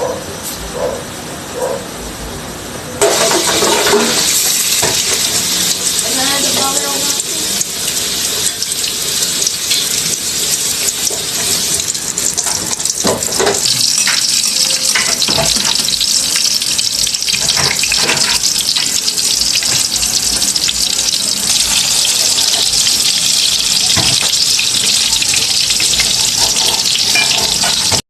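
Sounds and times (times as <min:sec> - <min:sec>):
food sizzling in a pan: 0:03.0 - 0:28.0.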